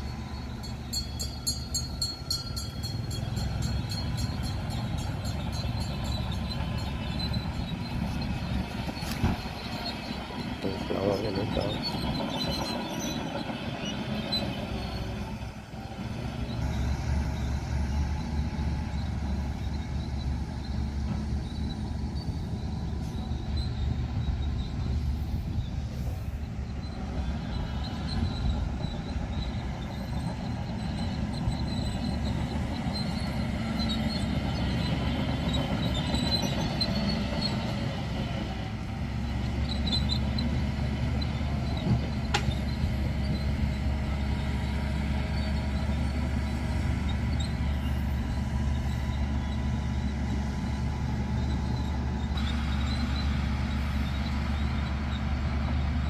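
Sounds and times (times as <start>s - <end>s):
heavy machinery diesel engine: 0.0s - 56.0s.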